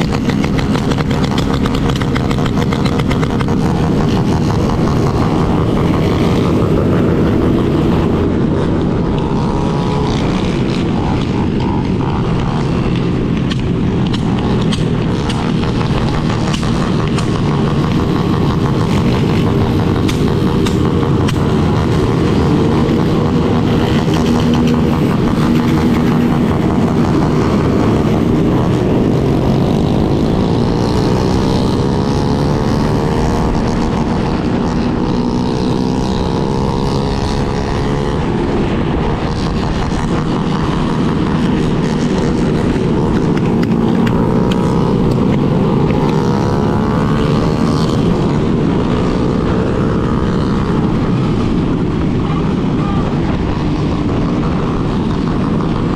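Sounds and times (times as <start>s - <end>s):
motorcycle engine accelerating: 0.0s - 55.9s
wind and road noise: 0.0s - 55.9s.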